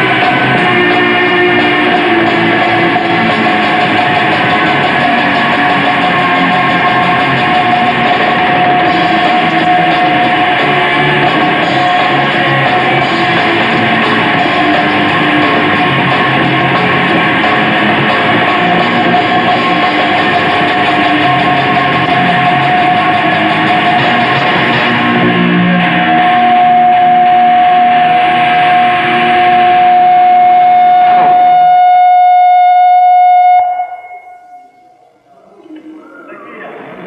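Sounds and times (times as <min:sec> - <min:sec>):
heavy metal band playing: 0:00.0 - 0:34.0
held high note ringing: 0:00.0 - 0:36.6.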